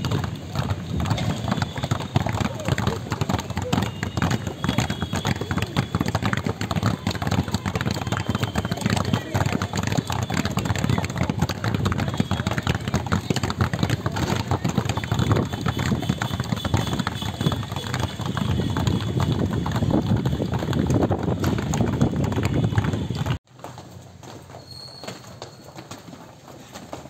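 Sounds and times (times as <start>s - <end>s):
basketballs bouncing on hard court: 0.0s - 27.0s.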